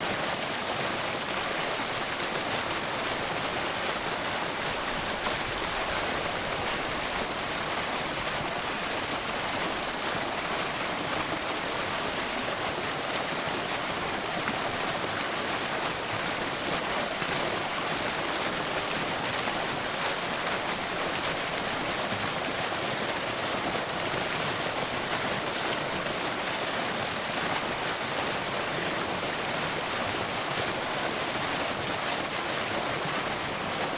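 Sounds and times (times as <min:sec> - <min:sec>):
water fountain splashing: 0:00.0 - 0:33.9.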